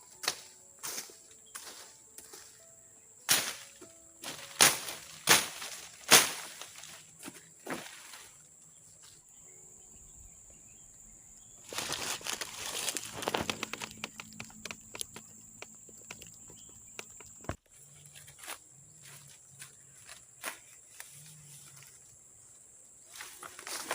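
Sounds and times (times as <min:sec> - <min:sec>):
rustling in vegetation: 0:00.0 - 0:09.5, 0:10.3 - 0:23.9
high insect buzz: 0:00.0 - 0:23.9.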